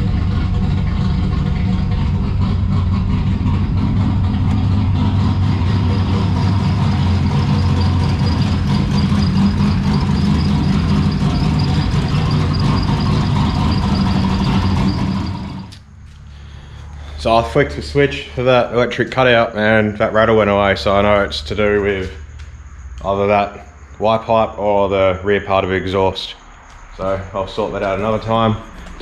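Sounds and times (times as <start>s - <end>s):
car engine idling: 0.0s - 23.8s, 26.7s - 29.0s.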